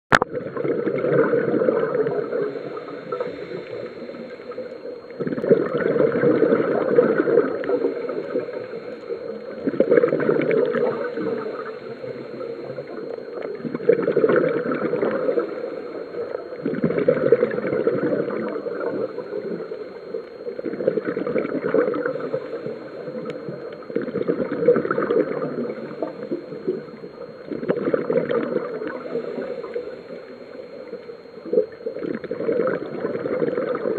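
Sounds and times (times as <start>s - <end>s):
regulator exhaled bubbles gurgling: 0.1s - 33.9s.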